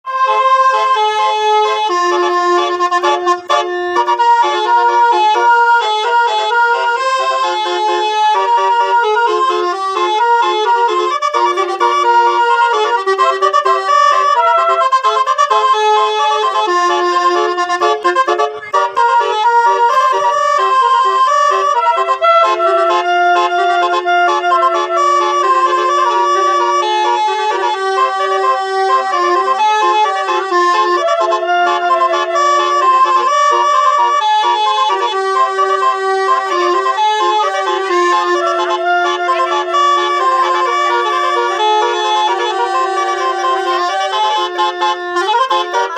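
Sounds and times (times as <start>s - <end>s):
bus air horns playing a tune: 0.0s - 45.9s.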